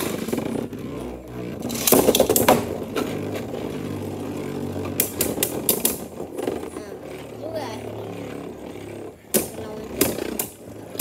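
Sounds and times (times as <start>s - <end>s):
spinning tops whirring and scraping: 0.0s - 11.0s.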